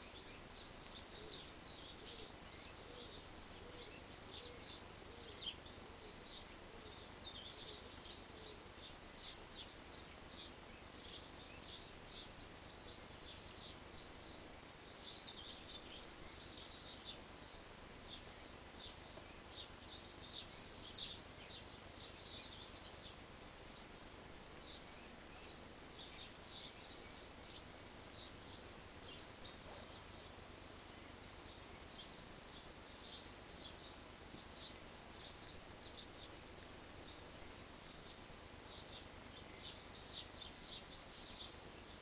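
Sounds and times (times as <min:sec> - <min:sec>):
faint steady hiss: 0:00.0 - 0:42.0
small birds chirping: 0:00.0 - 0:42.0.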